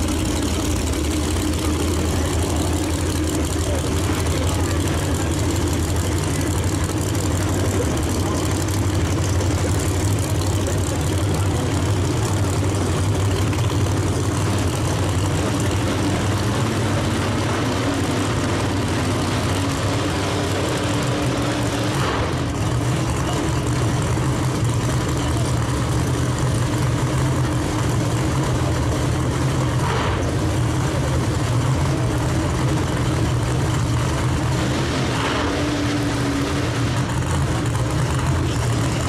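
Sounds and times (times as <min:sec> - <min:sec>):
race car engines idling: 0:00.0 - 0:39.0.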